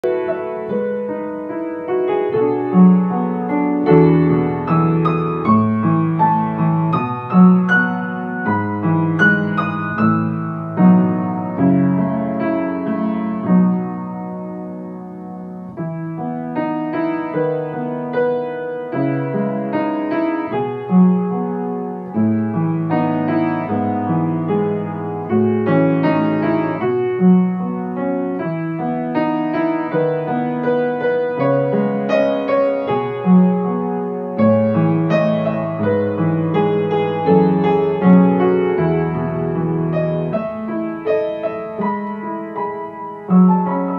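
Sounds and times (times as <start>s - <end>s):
calm piano music: 0.0s - 43.9s.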